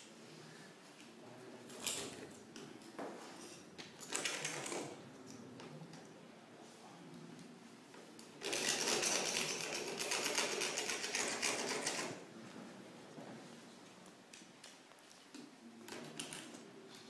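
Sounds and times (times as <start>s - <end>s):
faint room noise: 0.0s - 17.0s.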